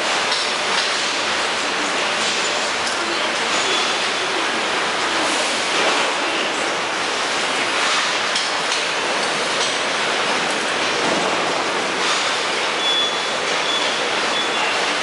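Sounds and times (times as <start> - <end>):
assembly line machinery noise: 0.0 - 15.0.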